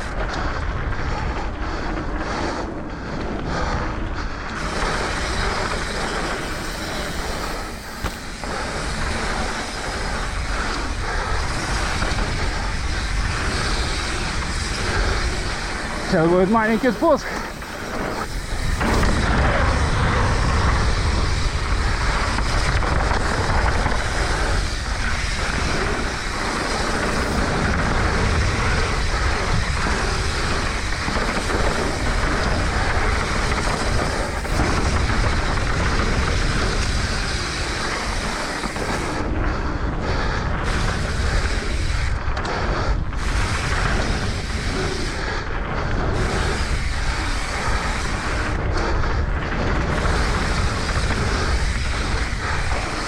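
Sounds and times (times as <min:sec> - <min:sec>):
bike tyres rolling on dirt: 0:00.0 - 0:53.0
wind buffeting microphone: 0:00.0 - 0:53.0.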